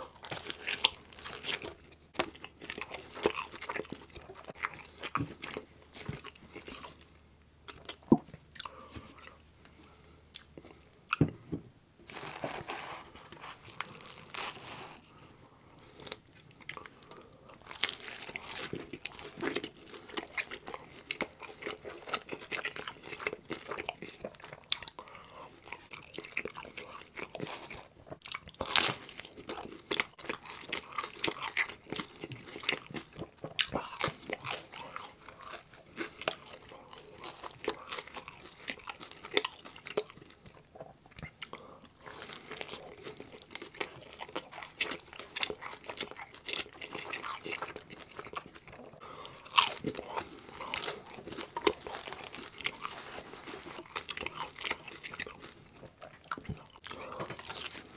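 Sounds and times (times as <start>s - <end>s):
chewing and crunching pizza: 0.0s - 11.3s, 12.1s - 57.9s.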